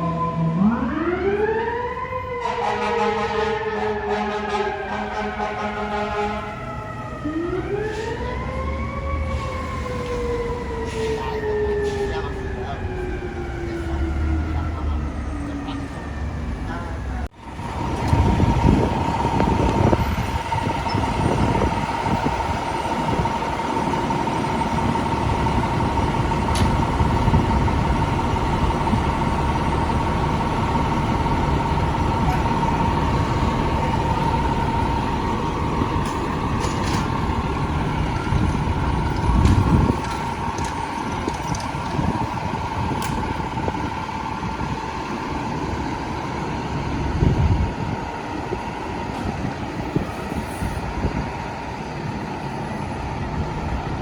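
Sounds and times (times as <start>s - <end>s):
fire truck engine running: 0.0s - 54.0s
street traffic: 0.0s - 54.0s.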